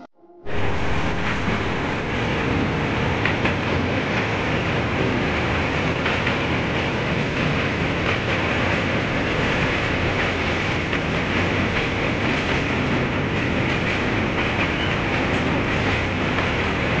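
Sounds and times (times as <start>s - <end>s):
train wheels rumbling on bridge: 0.5s - 17.0s.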